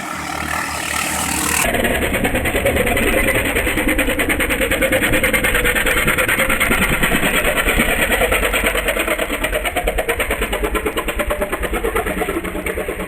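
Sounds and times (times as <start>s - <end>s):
longtail boat engine running: 0.0s - 13.0s.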